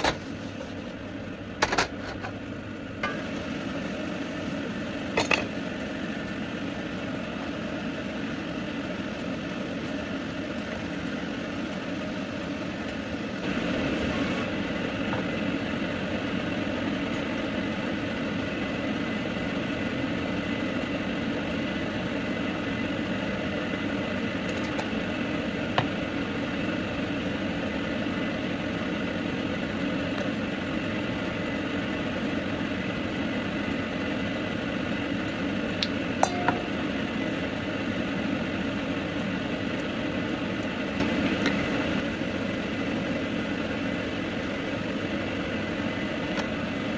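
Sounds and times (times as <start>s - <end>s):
steady mechanical hum: 0.0s - 46.9s.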